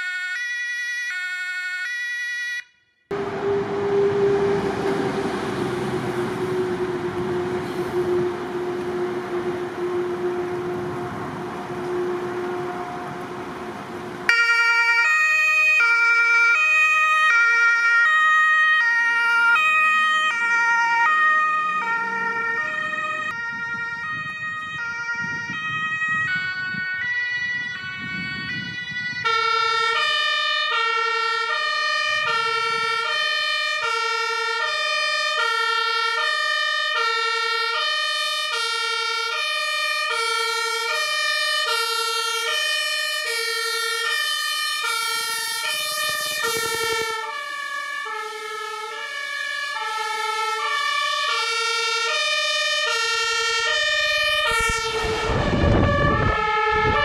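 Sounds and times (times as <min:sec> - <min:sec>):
two-tone emergency siren: 0:00.0 - 0:57.0.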